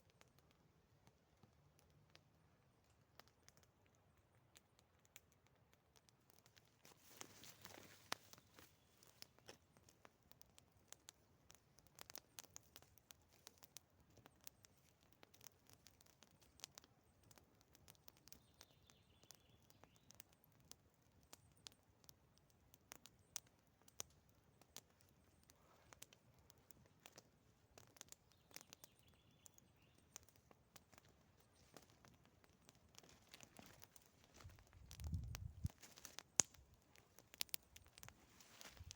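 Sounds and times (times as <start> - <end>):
campfire crackling: 0.0 - 38.9
fire pops and snaps: 0.0 - 38.9.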